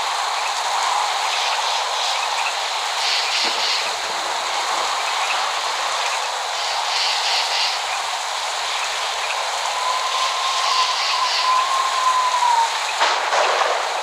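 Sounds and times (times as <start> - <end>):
steady rain hissing: 0.0 - 14.0.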